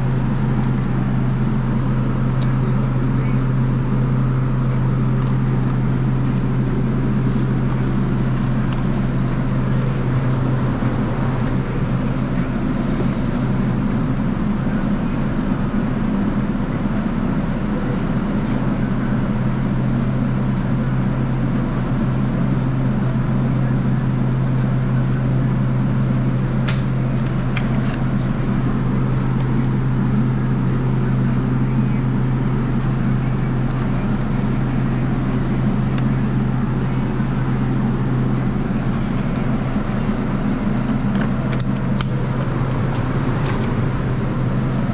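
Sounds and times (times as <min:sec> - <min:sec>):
refrigeration machine hum: 0:00.0 - 0:44.9.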